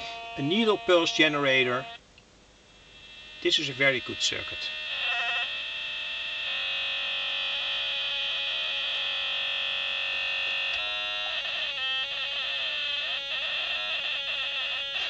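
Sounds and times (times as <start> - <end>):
buzzy electronic tone: 0.0 - 2.0, 2.6 - 15.0.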